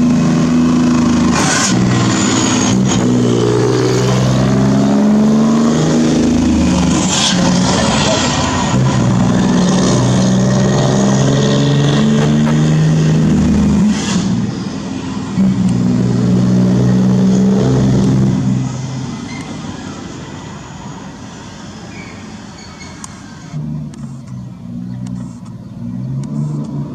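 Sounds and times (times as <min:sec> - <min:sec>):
loud truck engine: 0:00.0 - 0:26.9.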